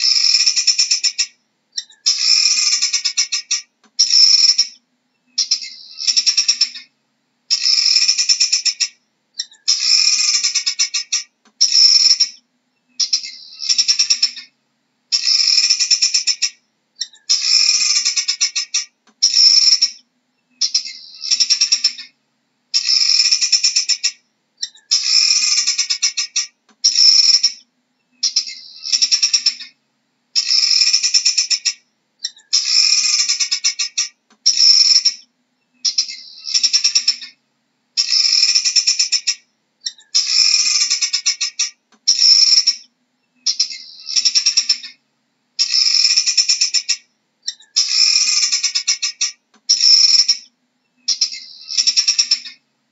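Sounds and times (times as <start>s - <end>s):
guineafowl rattling calls: 0.0s - 4.8s, 5.4s - 6.9s, 7.5s - 12.4s, 13.0s - 20.0s, 20.6s - 27.6s, 28.2s - 29.8s, 30.4s - 37.4s, 38.0s - 45.0s, 45.6s - 50.5s, 51.1s - 52.6s.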